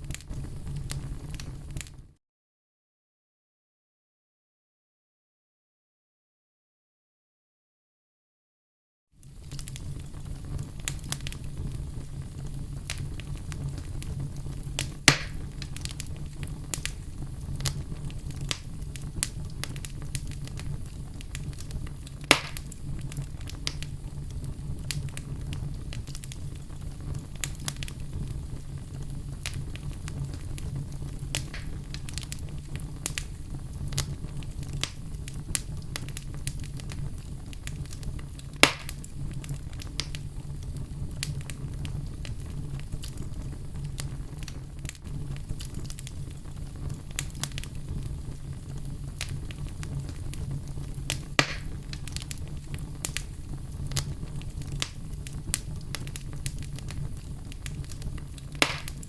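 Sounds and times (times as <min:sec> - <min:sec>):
loud pops of burning wood: 0:00.0 - 0:02.0, 0:09.2 - 0:59.0
fire crackling in a fireplace: 0:00.0 - 0:02.2, 0:09.1 - 0:59.0.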